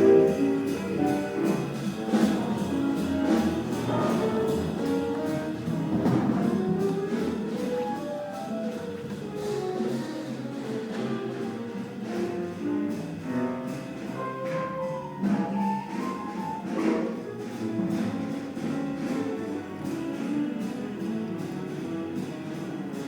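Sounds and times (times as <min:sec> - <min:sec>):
double bass: 0:00.0 - 0:23.0
drums: 0:00.0 - 0:23.0
jazz piano melody: 0:00.0 - 0:23.0.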